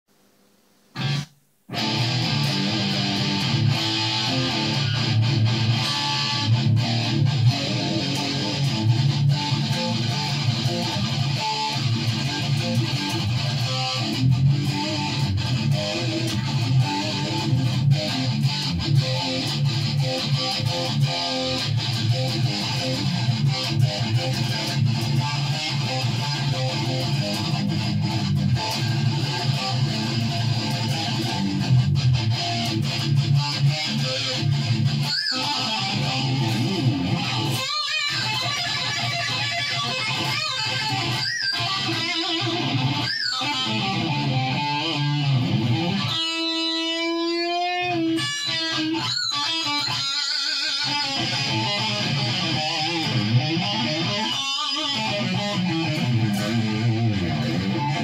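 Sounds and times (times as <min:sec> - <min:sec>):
strummed guitar music: 0:01.0 - 0:58.0.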